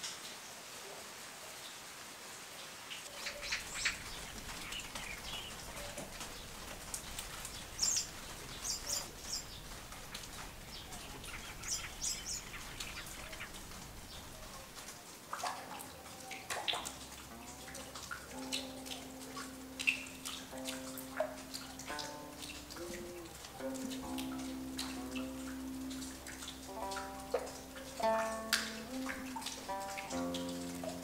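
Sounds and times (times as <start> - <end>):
faint outdoor background: 0.0 - 31.0
small birds chirping: 2.9 - 15.0, 15.9 - 30.9.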